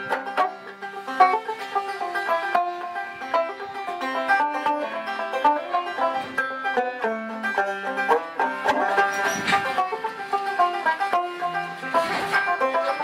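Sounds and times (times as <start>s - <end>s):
banjo plucked tune: 0.0s - 13.0s.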